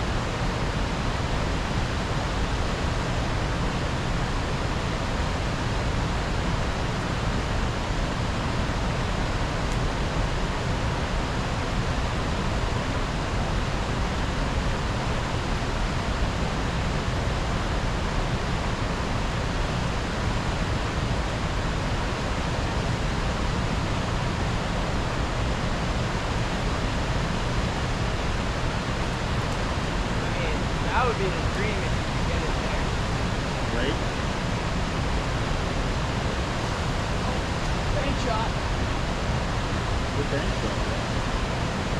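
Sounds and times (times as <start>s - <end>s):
river water flowing: 0.1s - 40.2s.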